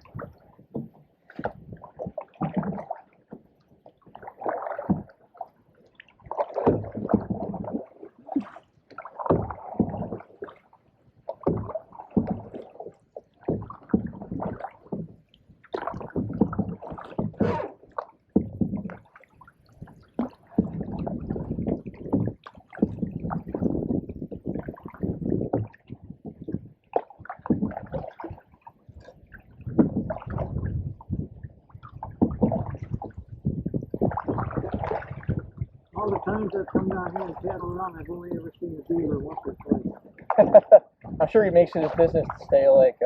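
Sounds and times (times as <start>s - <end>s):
paddle strokes in water: 0.0s - 43.0s.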